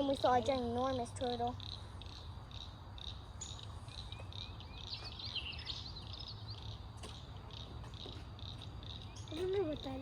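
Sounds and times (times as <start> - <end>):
bird chirps: 0.8 - 10.0.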